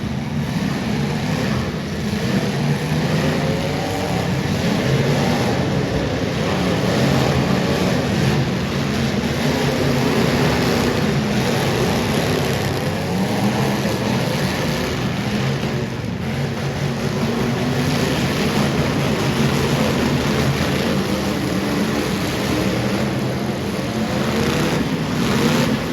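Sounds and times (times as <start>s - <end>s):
race car engines revving: 0.0s - 25.9s.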